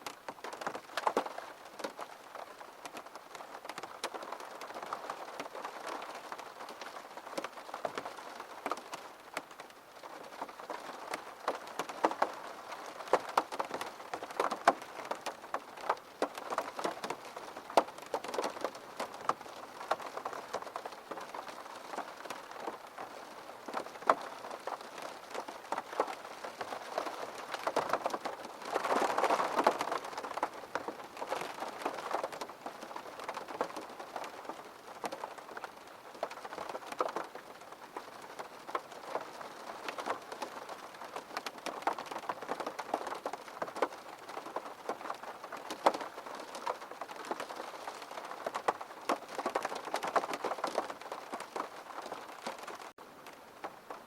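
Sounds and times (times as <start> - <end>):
rain drops on hard surface: 0.0 - 54.0
steady rainfall: 0.0 - 54.0.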